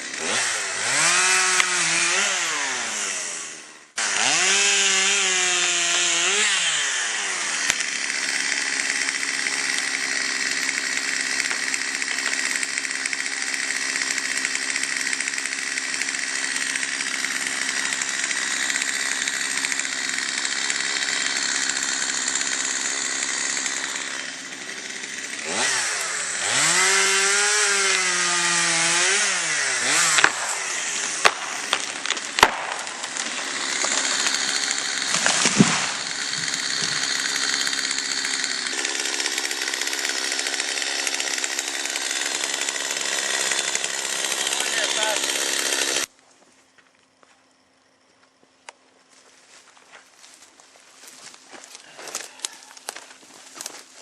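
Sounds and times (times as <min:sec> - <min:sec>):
chainsaw engine revving: 0:00.0 - 0:46.1.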